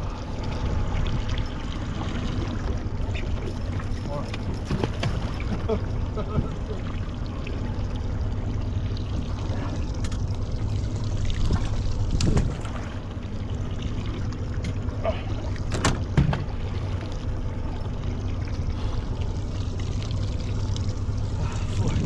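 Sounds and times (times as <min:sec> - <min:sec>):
boat engine hum: 0:00.0 - 0:22.0
water noise: 0:00.0 - 0:22.0.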